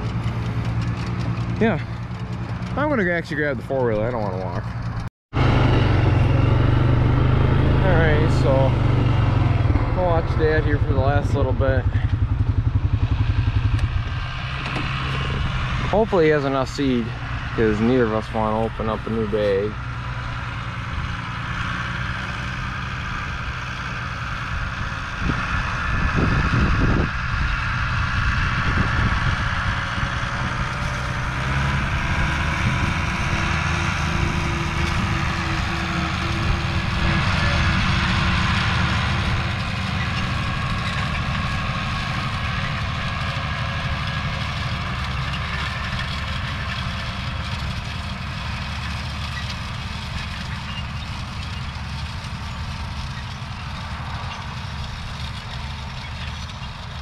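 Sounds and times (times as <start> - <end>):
engine idling: 0.0 - 57.0
low engine rumble: 0.0 - 57.0.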